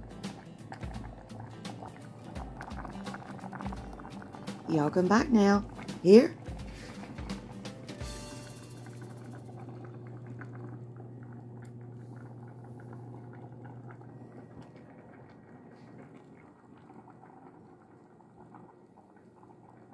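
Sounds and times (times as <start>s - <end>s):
steady low hum: 0.0s - 17.7s
beans simmering and bubbling: 0.0s - 19.9s.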